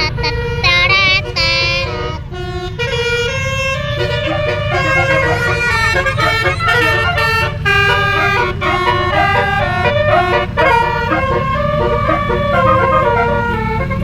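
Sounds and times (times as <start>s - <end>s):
multi-trumpet horn melody: 0.0s - 14.0s.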